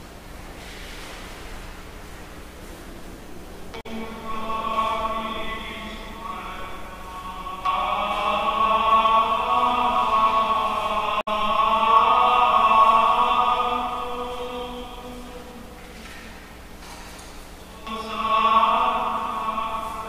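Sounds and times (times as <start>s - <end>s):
church music held chords: 3.7s - 20.0s.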